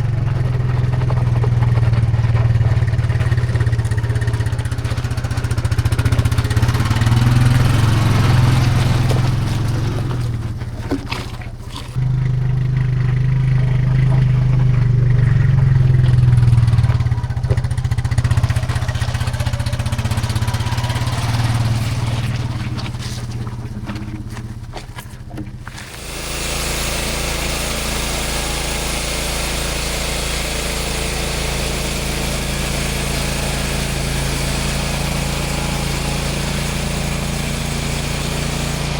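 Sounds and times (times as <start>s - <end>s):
small engine humming: 0.0s - 38.9s.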